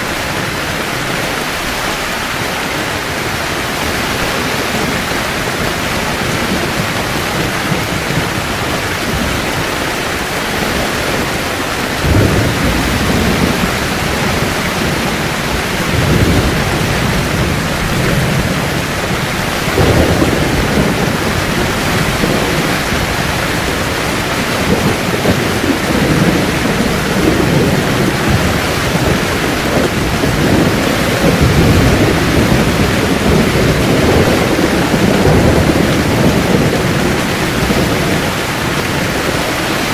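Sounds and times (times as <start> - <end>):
heavy rain on a tent: 0.0 - 39.9
thunder rumbling: 0.0 - 39.9.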